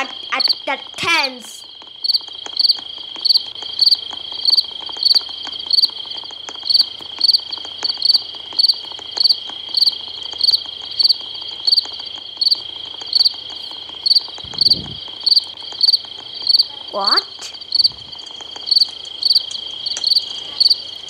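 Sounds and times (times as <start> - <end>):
high cricket trill: 0.0 - 21.0.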